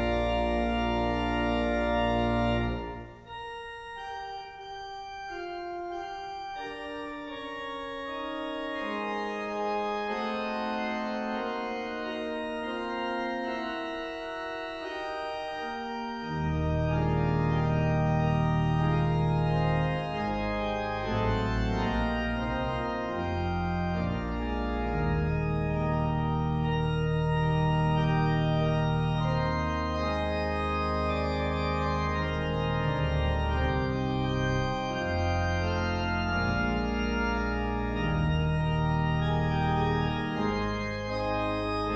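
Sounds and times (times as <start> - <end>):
organ playing slow chords: 0.0 - 41.9.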